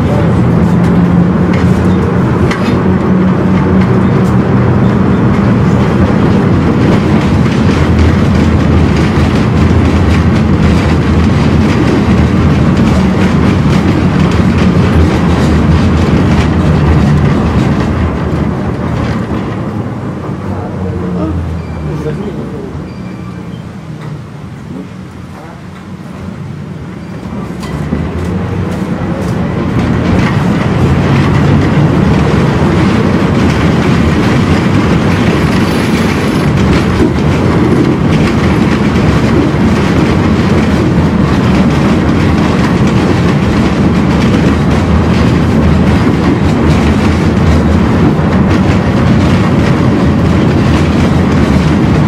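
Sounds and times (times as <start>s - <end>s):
wheels clattering over rail joints: 0.0s - 24.9s, 27.0s - 52.0s
tram running on rails: 0.0s - 52.0s.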